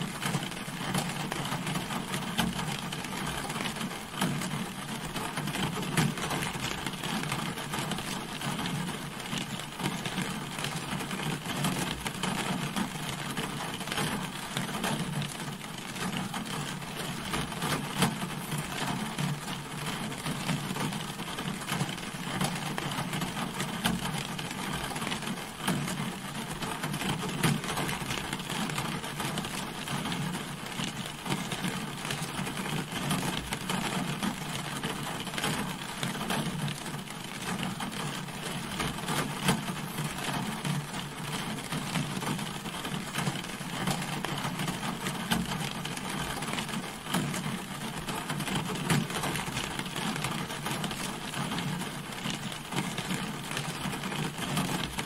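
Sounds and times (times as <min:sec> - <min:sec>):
rain pattering on a car: 0:00.0 - 0:55.0.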